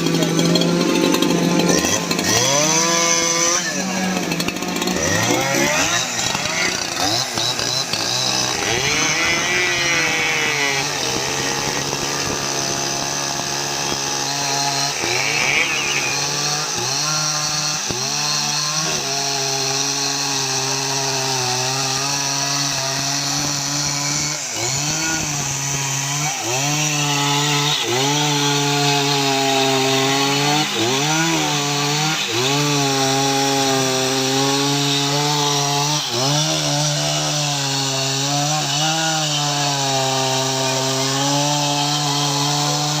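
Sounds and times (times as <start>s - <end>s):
chainsaw cutting wood: 0.0s - 43.0s.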